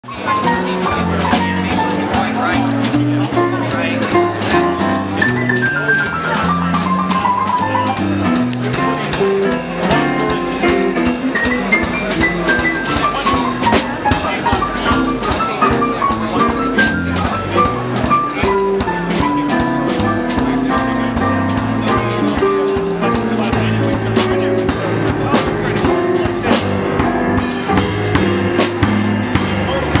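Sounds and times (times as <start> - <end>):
keyboard melody: 0.0 - 30.0
low bass line: 0.0 - 30.0
rock band playing: 0.0 - 30.0
drums and cymbals beat: 0.1 - 30.0.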